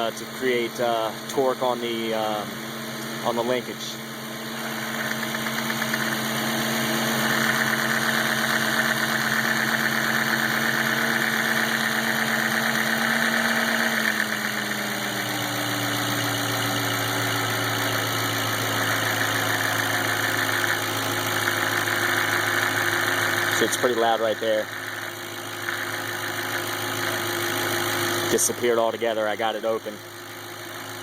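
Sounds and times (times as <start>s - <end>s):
car engine idling: 0.0s - 31.0s
intermittent engine ticking: 0.0s - 31.0s.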